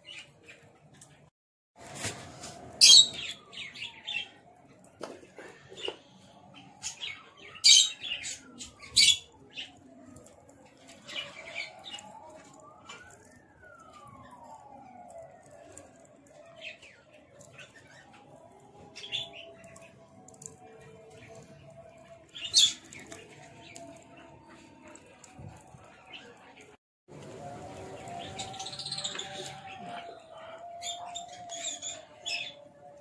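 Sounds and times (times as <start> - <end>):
birds chirping: 2.7 - 4.5, 5.4 - 26.8, 27.6 - 33.0.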